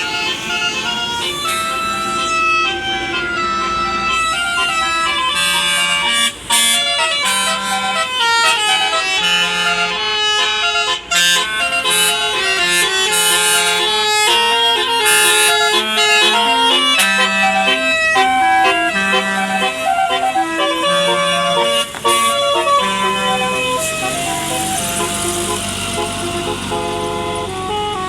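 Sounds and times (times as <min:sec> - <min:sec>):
bus horn playing a melody: 0:00.0 - 0:28.0.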